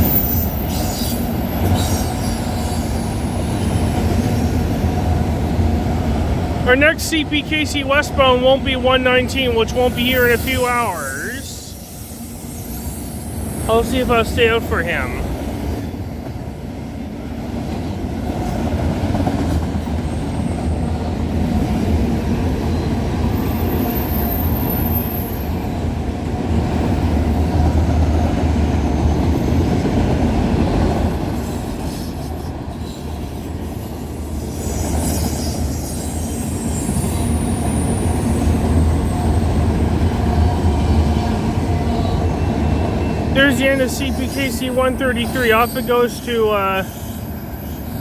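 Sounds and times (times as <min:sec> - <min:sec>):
train wheels rumbling on rails: 0:00.0 - 0:44.2.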